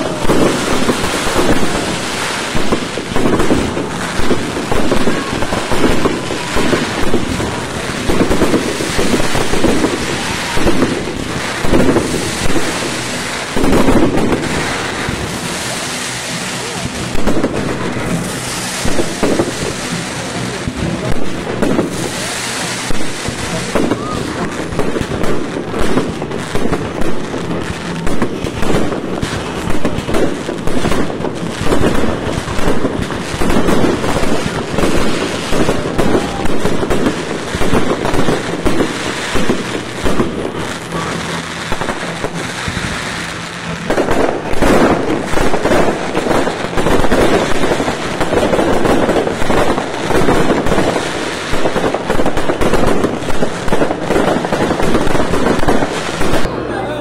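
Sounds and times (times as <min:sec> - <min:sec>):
fireworks shells bursting: 0:00.0 - 0:56.6.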